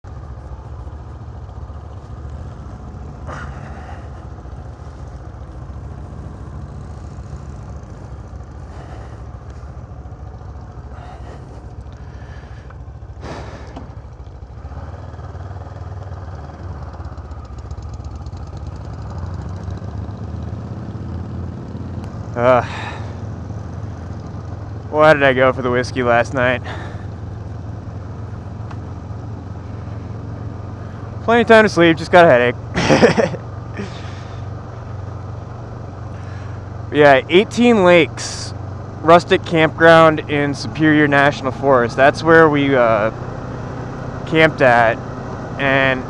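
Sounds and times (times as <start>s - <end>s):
motorcycle engine idling: 0.1s - 46.0s.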